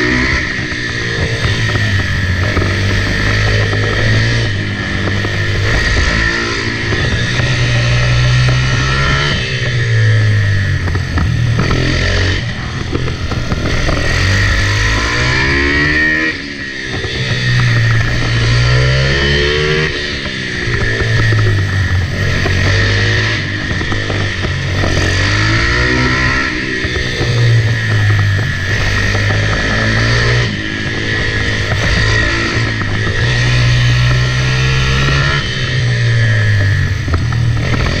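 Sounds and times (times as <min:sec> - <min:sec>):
motorbike engine revving: 0:00.0 - 0:38.0.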